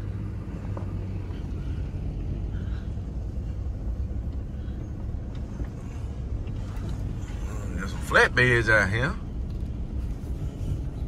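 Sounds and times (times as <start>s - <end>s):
truck engine rumble: 0.0s - 11.0s.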